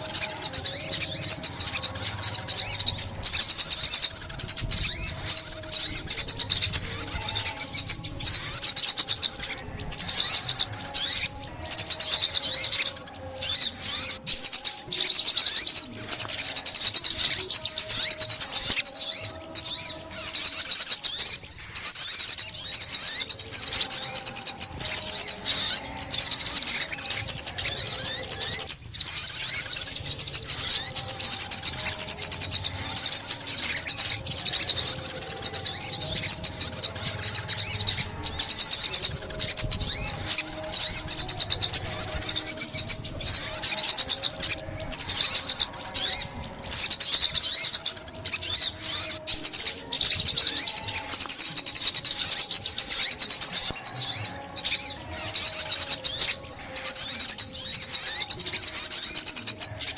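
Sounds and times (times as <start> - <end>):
songbird twittering: 0.0 - 59.9.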